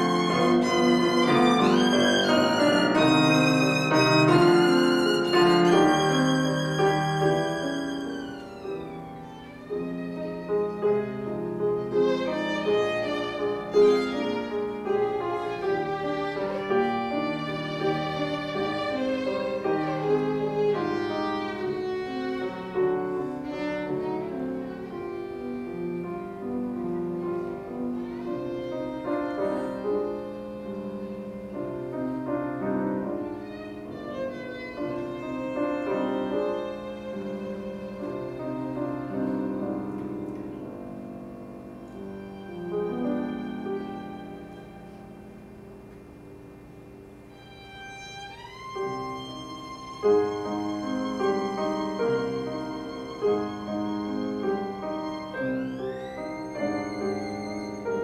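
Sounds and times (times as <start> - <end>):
grand piano: 0.0 - 58.0
violin melody: 0.0 - 58.0.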